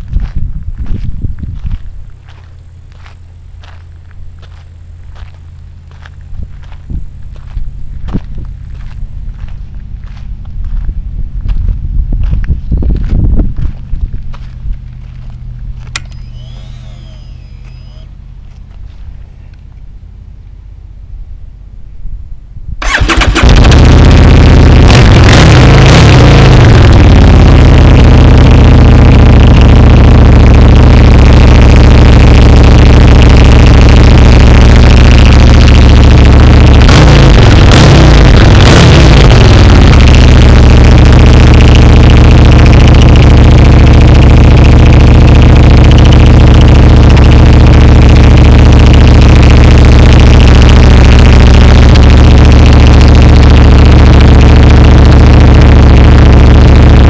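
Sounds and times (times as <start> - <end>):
motorcycle engine idling and revving: 0.0 - 21.8, 22.8 - 57.0.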